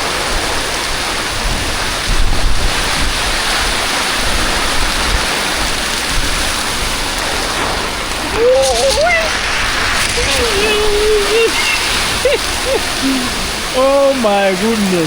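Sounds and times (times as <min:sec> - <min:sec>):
heavy rain and running water: 0:00.0 - 0:15.0
wind buffeting microphone: 0:00.0 - 0:15.0.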